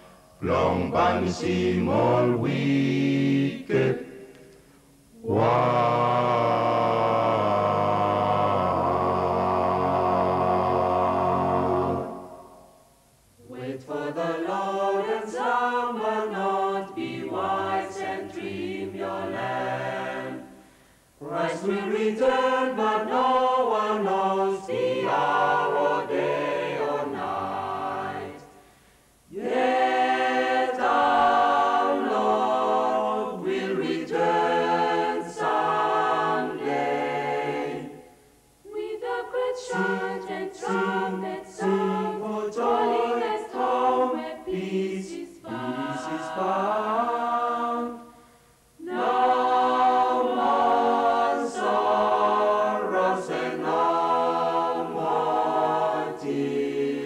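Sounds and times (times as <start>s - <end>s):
mixed choir singing in harmony: 0.0s - 4.5s, 5.1s - 28.7s, 29.3s - 57.0s.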